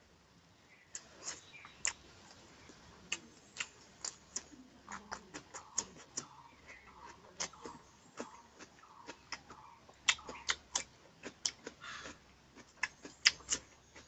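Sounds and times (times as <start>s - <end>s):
wet chewing mouth sounds: 0.9s - 14.0s.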